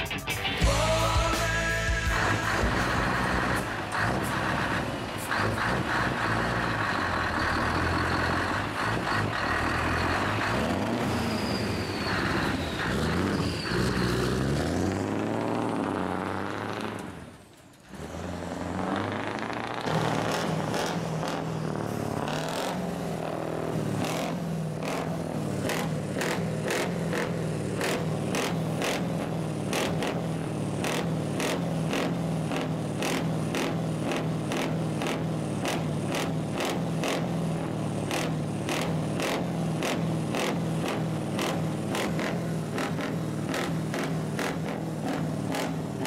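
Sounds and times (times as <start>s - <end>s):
diesel engine running at low revs: 0.0s - 46.0s.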